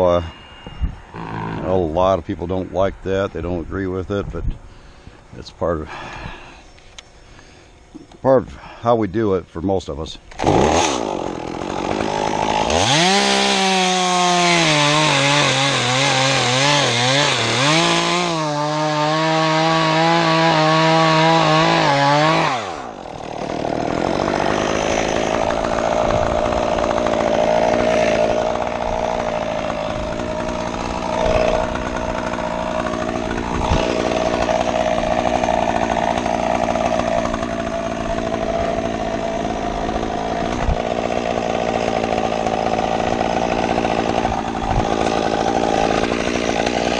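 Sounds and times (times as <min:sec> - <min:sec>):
chainsaw revving cutting limbs: 0:00.0 - 0:04.2, 0:10.2 - 0:46.9.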